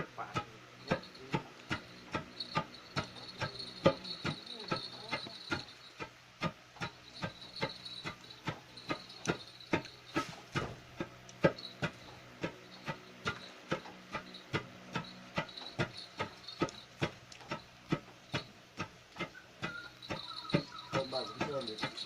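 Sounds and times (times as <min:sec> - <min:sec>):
wooden pestle pounding rice: 0:00.3 - 0:22.0.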